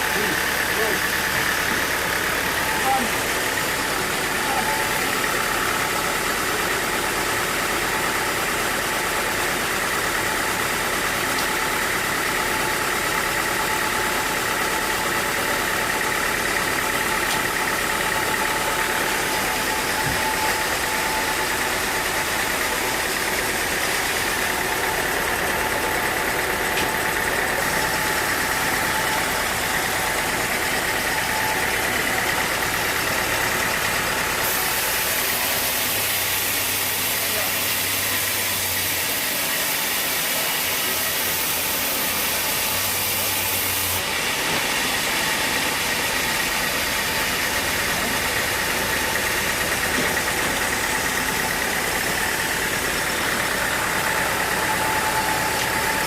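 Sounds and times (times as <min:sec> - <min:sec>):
high machine whine: 0:00.0 - 0:56.0
sawmill machinery humming: 0:00.0 - 0:56.0.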